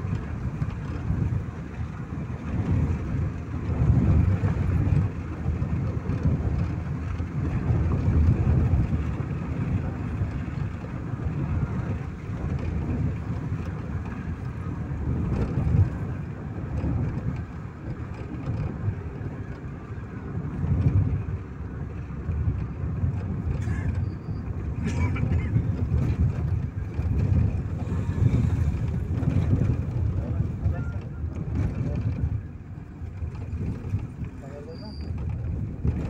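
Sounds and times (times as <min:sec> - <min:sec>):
car cabin road and engine rumble: 0:00.0 - 0:36.0.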